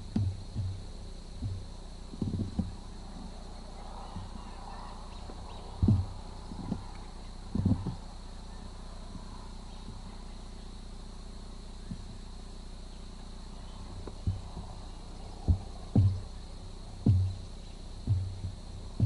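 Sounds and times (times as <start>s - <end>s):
dull low thumps: 0.0s - 8.3s, 11.4s - 19.0s
crickets trilling: 0.0s - 19.0s.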